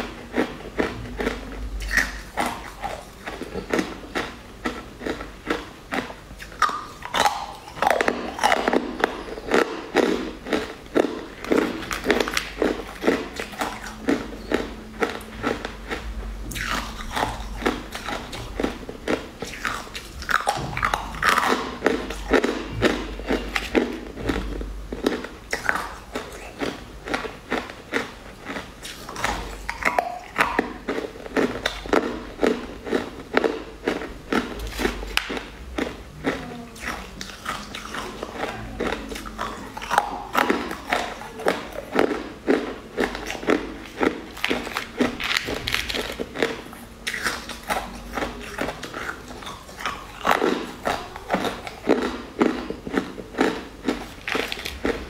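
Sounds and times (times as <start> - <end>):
crunchy chewing of candy: 0.0 - 55.0.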